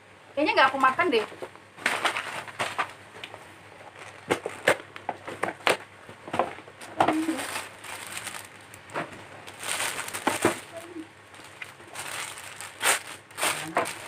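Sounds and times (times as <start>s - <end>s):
paper and plastic crinkling: 0.6s - 14.0s.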